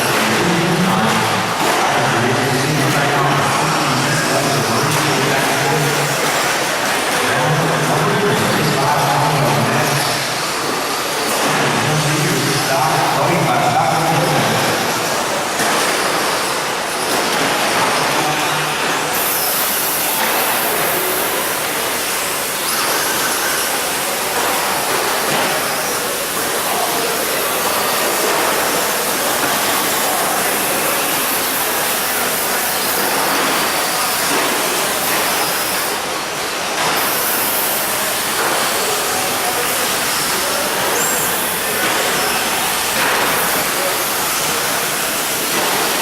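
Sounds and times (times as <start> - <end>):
rc trucks racing: 0.0 - 46.0.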